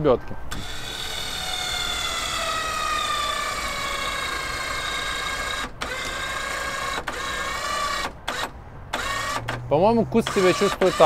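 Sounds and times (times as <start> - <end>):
electric winch whining: 0.5 - 11.0.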